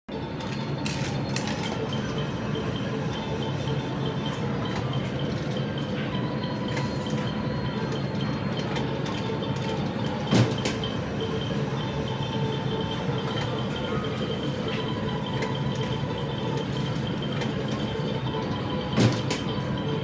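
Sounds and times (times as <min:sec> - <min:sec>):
vending machine hum: 0:00.1 - 0:20.0.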